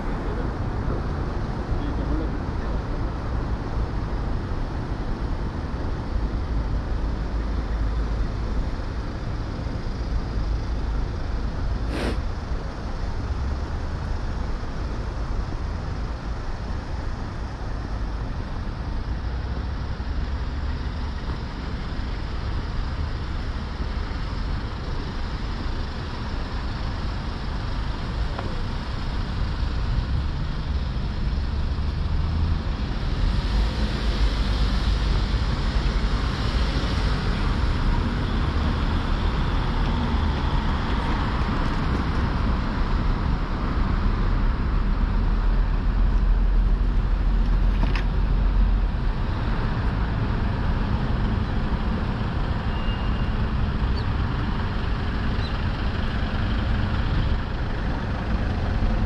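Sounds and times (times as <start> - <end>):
rumble of passing vehicles: 0.0 - 59.0.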